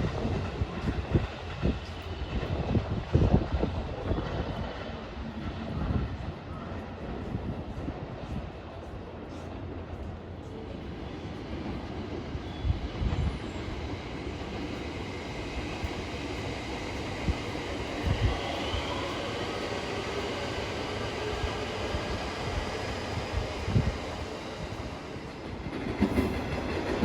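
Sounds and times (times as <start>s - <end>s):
wind buffeting microphone: 0.0s - 9.0s, 11.4s - 27.0s
train wheels rumbling on rails: 0.0s - 27.0s.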